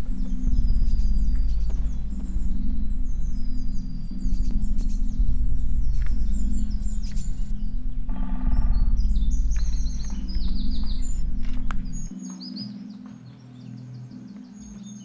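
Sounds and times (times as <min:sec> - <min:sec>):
heavy low rumble: 0:00.0 - 0:12.2
songbirds singing: 0:00.0 - 0:15.0.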